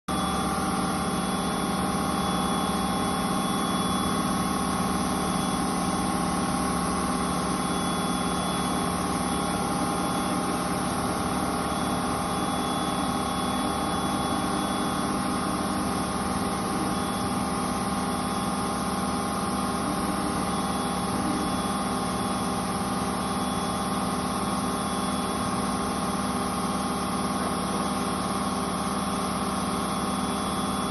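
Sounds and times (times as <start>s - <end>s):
milling machine whining: 0.1s - 30.9s.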